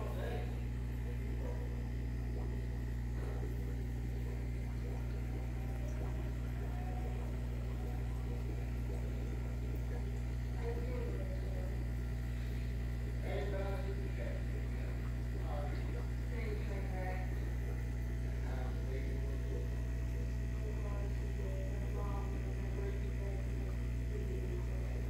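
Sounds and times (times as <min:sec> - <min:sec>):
aquarium filter pump hum: 0:00.0 - 0:25.0
faint voices: 0:00.0 - 0:25.0.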